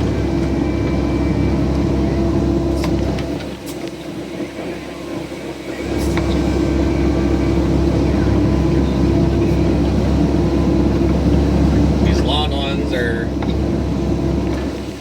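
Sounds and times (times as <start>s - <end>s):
excavator diesel engine running: 0.0s - 15.0s
hydraulics working: 0.0s - 15.0s.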